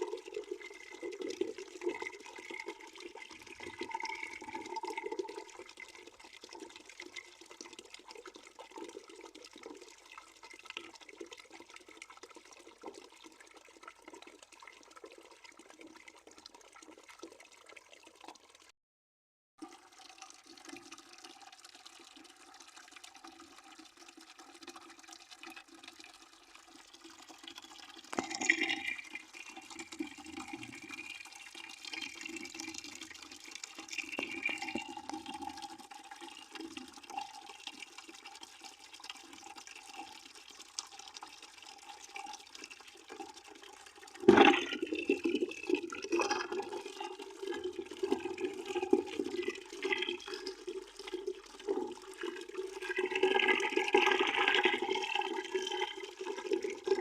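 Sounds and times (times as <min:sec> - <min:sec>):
water pouring into a bucket: 0:00.0 - 0:18.7, 0:19.6 - 0:57.0.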